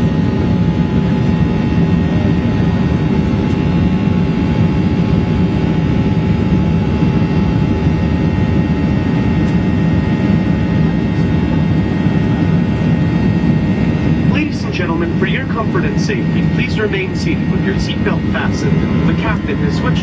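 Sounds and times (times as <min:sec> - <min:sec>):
aircraft engine and airflow roar: 0:00.0 - 0:20.0
thin steady whine: 0:00.0 - 0:20.0.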